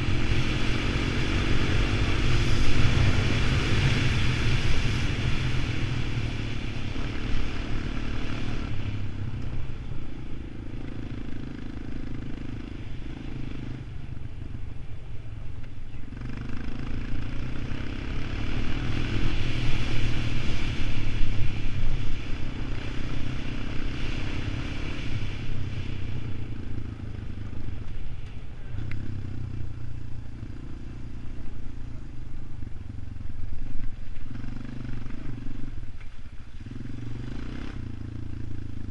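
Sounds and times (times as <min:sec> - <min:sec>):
atv engine revving: 0:00.0 - 0:14.8, 0:15.4 - 0:38.9.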